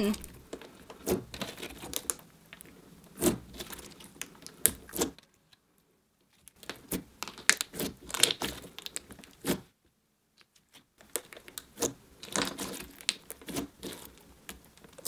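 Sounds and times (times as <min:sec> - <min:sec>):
slime sticky clicks and crackles: 0:00.5 - 0:05.6, 0:06.3 - 0:09.6, 0:10.4 - 0:15.0.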